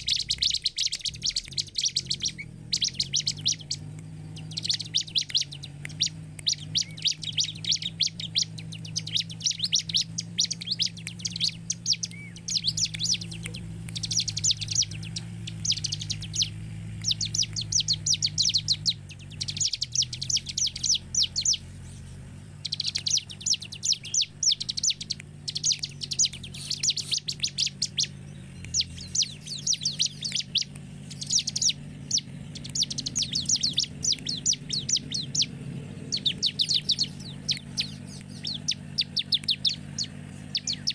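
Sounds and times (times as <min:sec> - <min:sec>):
bird singing fast high notes: 0:00.0 - 0:40.9.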